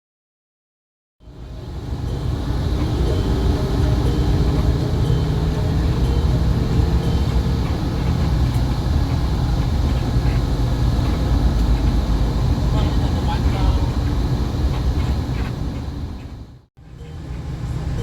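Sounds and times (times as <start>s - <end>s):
bus diesel engine rumbling: 1.2s - 18.0s
road noise: 1.2s - 18.0s.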